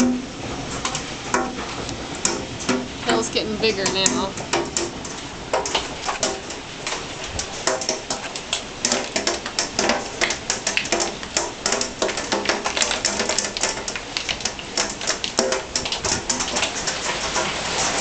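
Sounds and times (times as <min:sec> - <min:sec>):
heavy rain hiss: 0:00.0 - 0:18.0
hailstones clattering on hard surfaces: 0:00.6 - 0:18.0.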